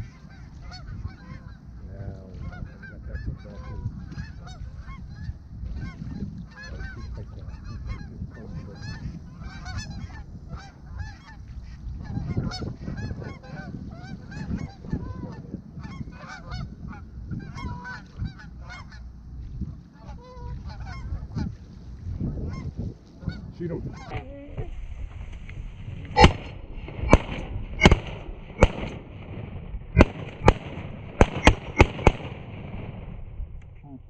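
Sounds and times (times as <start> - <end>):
geese honking and clucking: 0.0 - 24.8, 25.6 - 29.2
wind rumbling on microphone: 0.0 - 34.0.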